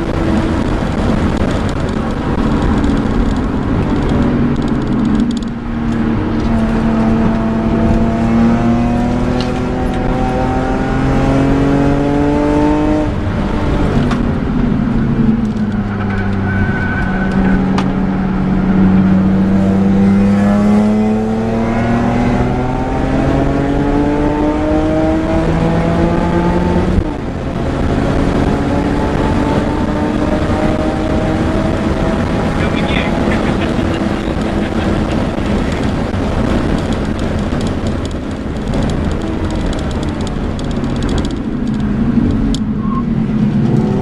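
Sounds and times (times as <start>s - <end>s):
car engine revving: 0.0s - 44.0s
gear upshift: 0.0s - 44.0s.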